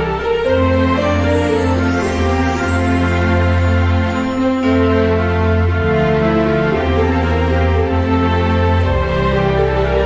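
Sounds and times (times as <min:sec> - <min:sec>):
christmas music: 0:00.0 - 0:10.0.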